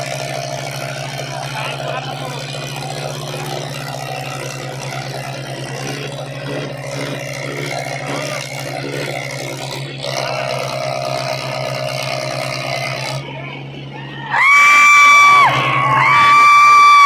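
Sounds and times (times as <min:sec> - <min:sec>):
crowd voices: 0:00.0 - 0:17.0
diesel tractor engines under load: 0:00.0 - 0:17.0.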